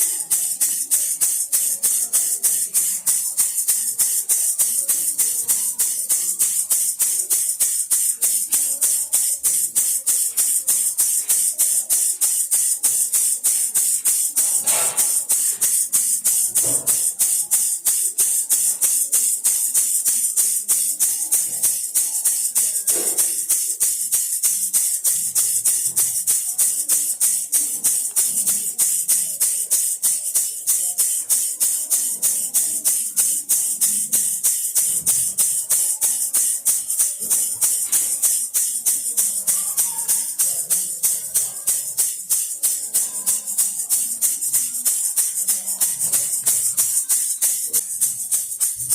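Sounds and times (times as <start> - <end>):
baby rattle shaking: 0.0 - 48.9.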